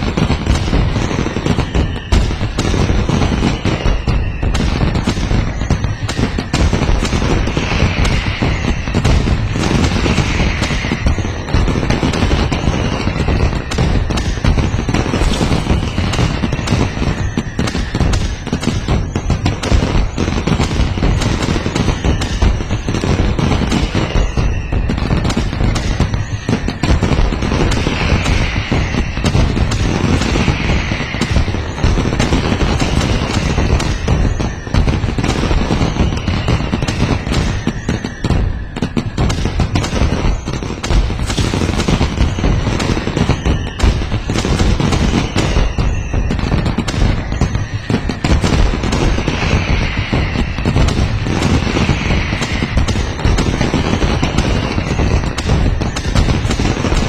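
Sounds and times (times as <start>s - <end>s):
falling firework whistle: 0.0s - 57.0s
fireworks bangs and crackling: 0.0s - 57.0s.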